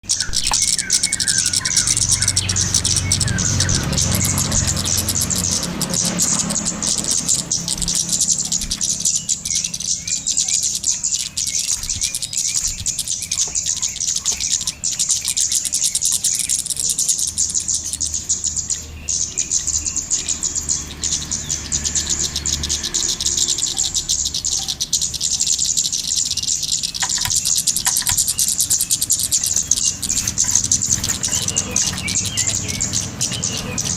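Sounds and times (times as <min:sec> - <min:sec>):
small bird high chirping: 0:00.0 - 0:33.9.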